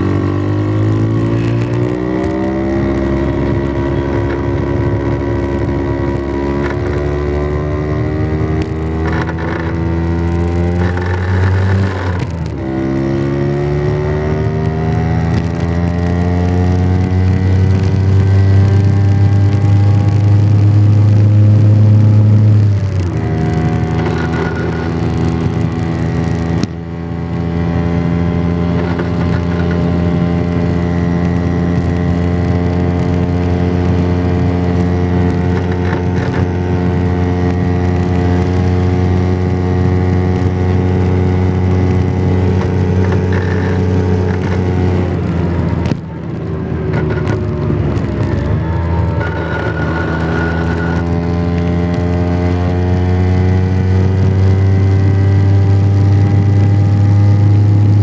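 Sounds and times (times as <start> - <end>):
scooter engine running: 0.0 - 58.0.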